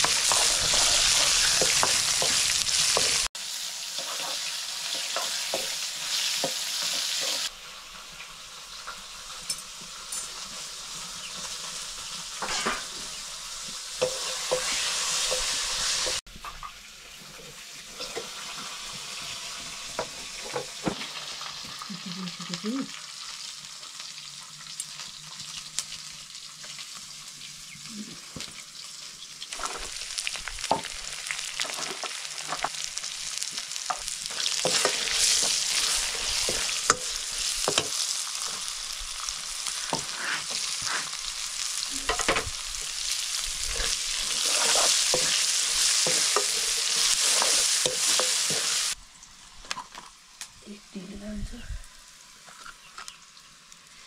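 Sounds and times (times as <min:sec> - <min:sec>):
oil sizzling in a wok: 0:00.0 - 0:54.0.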